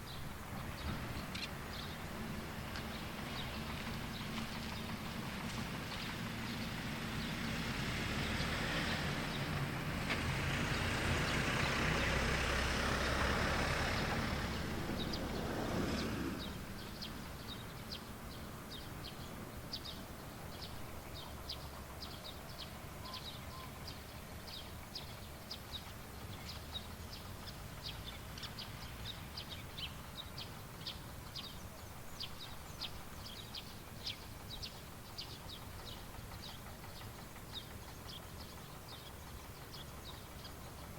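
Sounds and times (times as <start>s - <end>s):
motor vehicle passing: 0.6s - 40.9s.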